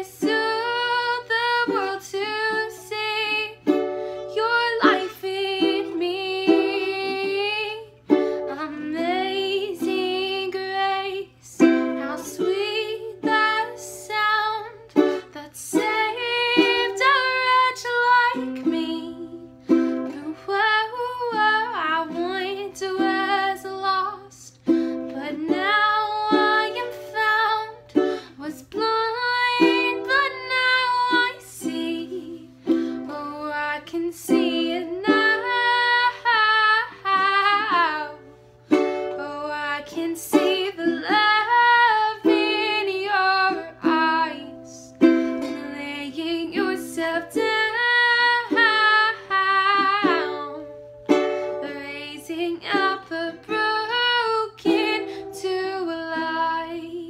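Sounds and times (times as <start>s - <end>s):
ukulele strumming: 0.0s - 57.0s
woman singing: 0.0s - 57.0s.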